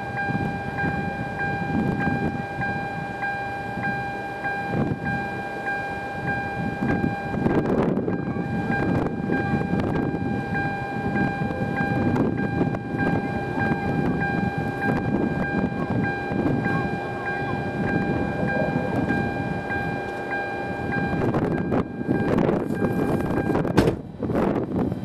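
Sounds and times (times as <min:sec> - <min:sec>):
gusty wind buffeting microphone: 0:00.0 - 0:05.4, 0:06.0 - 0:25.0
high-pitched steady tone: 0:00.0 - 0:23.8.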